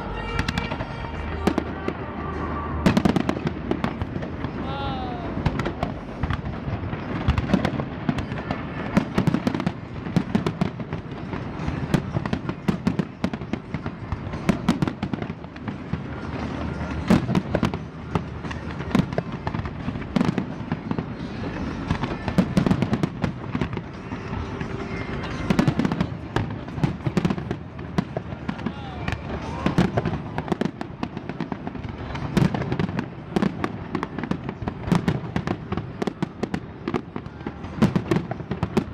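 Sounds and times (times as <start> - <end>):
continuous low rumble: 0.0 - 38.9
fireworks bangs and crackles: 0.0 - 38.9.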